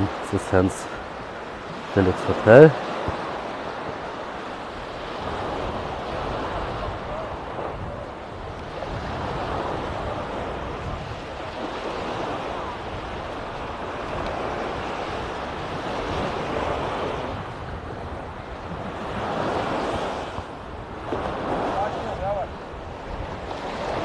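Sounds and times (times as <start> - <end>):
sea waves washing onto shore: 0.0 - 24.0
wind rumble on microphone: 0.0 - 24.0.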